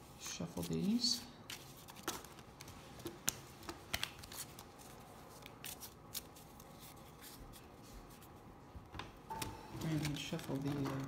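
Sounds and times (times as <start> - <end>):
cards being shuffled: 0.5 - 8.3, 9.8 - 11.0.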